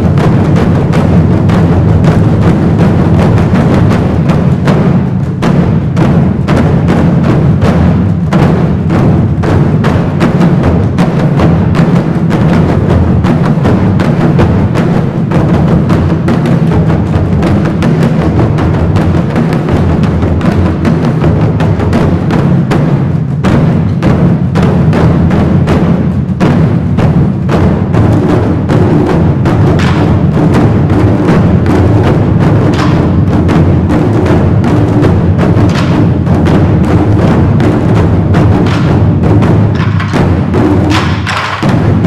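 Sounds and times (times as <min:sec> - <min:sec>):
ensemble of drums pounding: 0:00.0 - 0:42.0.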